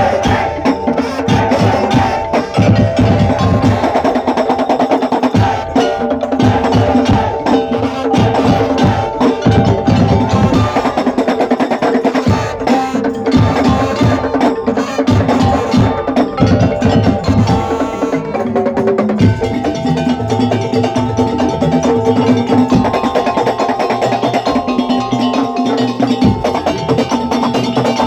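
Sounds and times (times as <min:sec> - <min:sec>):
percussion ensemble music: 0:00.0 - 0:28.0.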